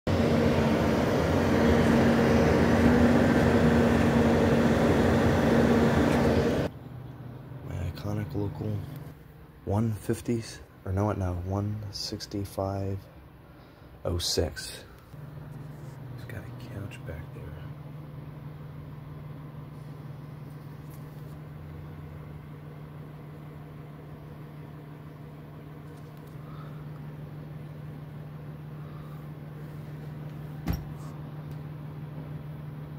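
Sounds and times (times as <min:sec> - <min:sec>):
garbage truck engine droning: 0:00.1 - 0:11.6, 0:15.1 - 0:32.9.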